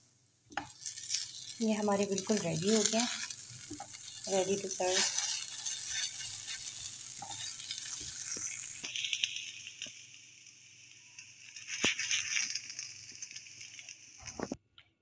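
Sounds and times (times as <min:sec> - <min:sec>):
sausages sizzling in a pan: 0:00.0 - 0:14.5.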